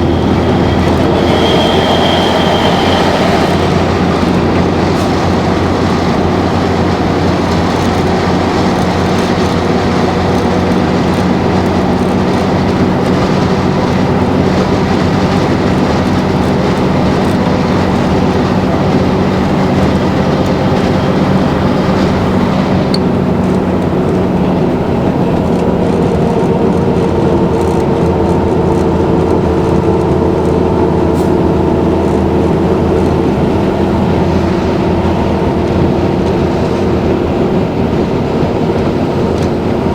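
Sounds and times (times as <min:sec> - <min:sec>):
bus diesel engine droning: 0:00.0 - 0:39.9
rolling noise: 0:00.0 - 0:39.9.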